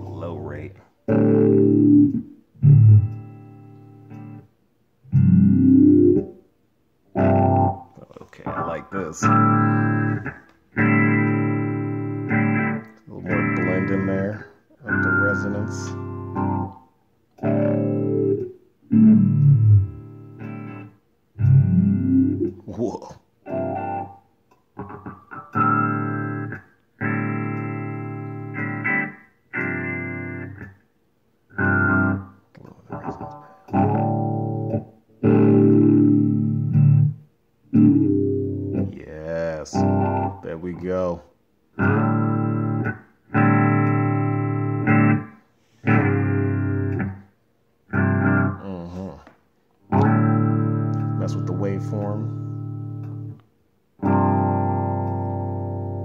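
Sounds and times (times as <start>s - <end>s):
filtered electric guitar chords: 0.0s - 6.4s, 7.1s - 22.7s, 23.4s - 30.8s, 31.5s - 40.8s, 41.7s - 56.0s.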